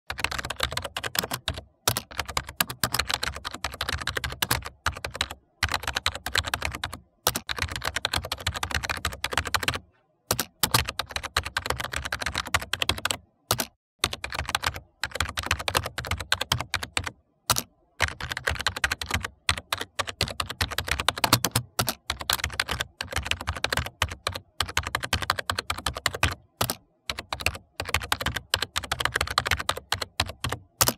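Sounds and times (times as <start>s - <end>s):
computer keyboard typing: 0.1s - 30.9s.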